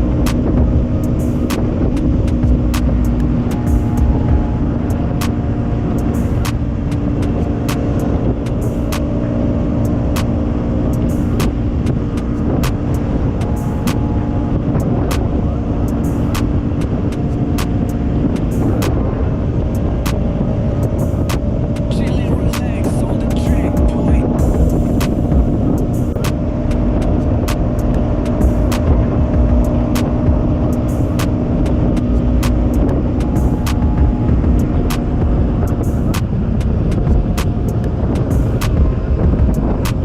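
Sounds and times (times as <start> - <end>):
motorcycle engine cruising: 0.0 - 40.0
wind and road noise: 0.0 - 40.0
sharp ticks: 0.1 - 40.0.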